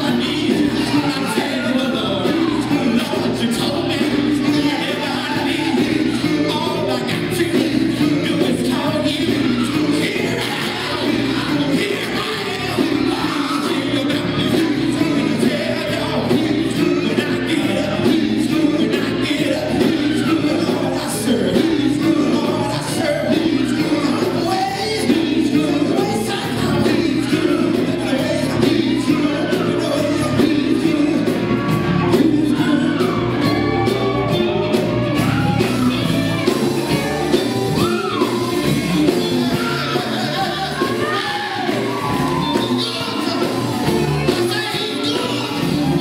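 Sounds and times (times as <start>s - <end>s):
bass guitar: 0.0s - 46.0s
electric guitar: 0.0s - 46.0s
male vocal group singing: 0.0s - 46.0s.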